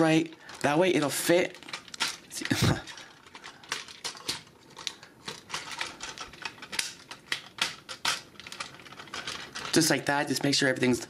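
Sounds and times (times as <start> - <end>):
plastic parts clicking together: 0.0 - 11.0.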